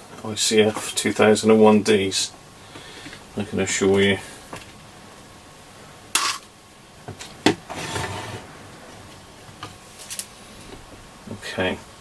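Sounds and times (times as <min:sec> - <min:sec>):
rustle: 0:00.2 - 0:12.0.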